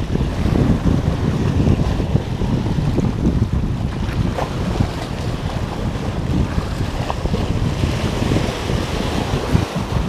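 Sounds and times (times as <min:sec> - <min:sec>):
waves breaking over rocks: 0:00.0 - 0:10.0
wind buffeting microphone: 0:00.0 - 0:10.0.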